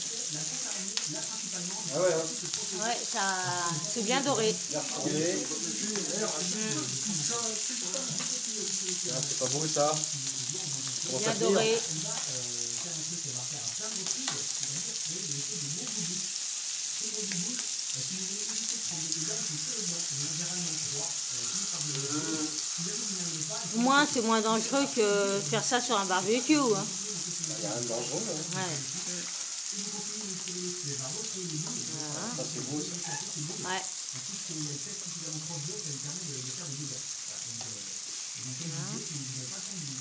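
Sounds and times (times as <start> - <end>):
low voices talking: 0.0 - 16.3, 17.0 - 40.0
food sizzling on a griddle: 0.0 - 40.0.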